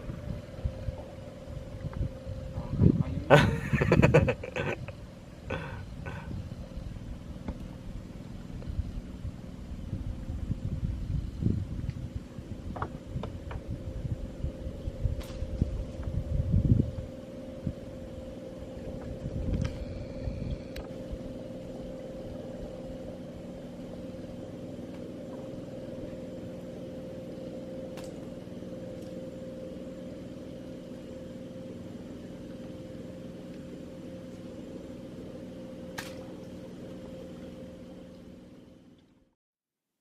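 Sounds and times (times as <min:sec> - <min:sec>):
boat engine running: 0:00.0 - 0:39.4.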